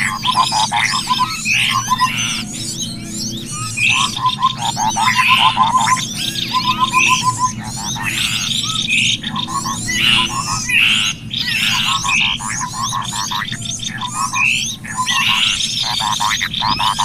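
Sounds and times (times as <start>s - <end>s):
quick repeated bird notes: 0.0s - 17.0s
small birds chirping and twittering: 0.0s - 17.0s.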